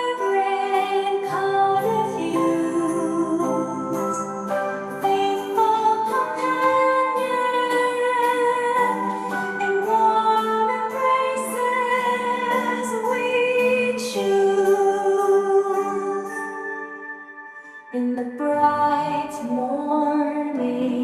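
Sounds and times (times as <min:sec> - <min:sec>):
keyboard chords: 0:00.0 - 0:21.0
slow song with sustained singing: 0:00.0 - 0:21.0.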